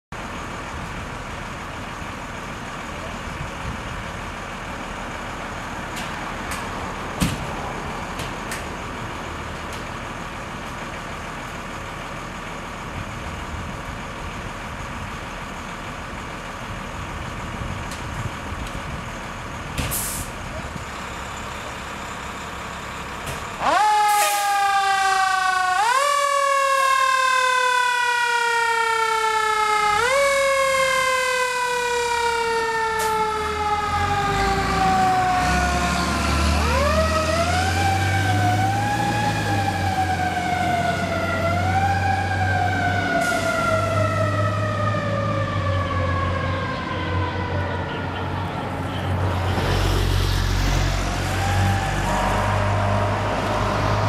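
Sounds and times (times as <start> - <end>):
diesel engine running low: 0.1 - 54.0
fire engine siren: 0.2 - 54.0.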